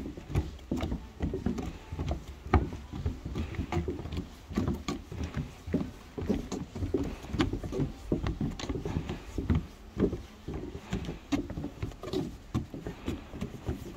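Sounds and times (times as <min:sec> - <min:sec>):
footsteps on wooden boardwalk: 0:00.0 - 0:13.9.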